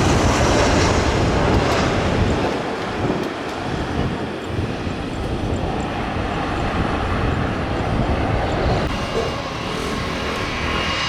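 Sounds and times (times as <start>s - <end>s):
jet engine whining tones: 0.0s - 11.0s
jet engines rumbling: 0.0s - 11.0s.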